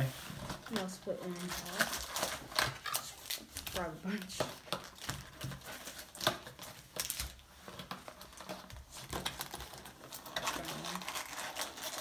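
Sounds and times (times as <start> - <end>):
foil packets crinkling: 0.0 - 12.0.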